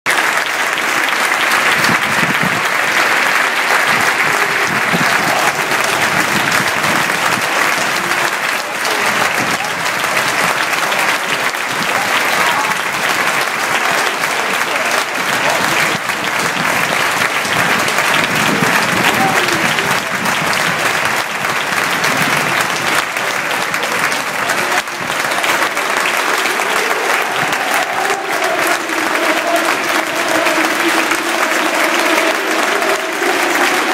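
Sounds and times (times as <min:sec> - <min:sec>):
stadium crowd applauding: 0:00.0 - 0:33.9.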